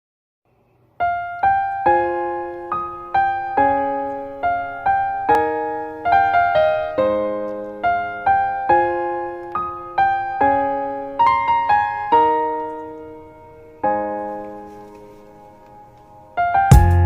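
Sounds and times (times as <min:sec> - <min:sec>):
piano melody: 0:00.9 - 0:17.0.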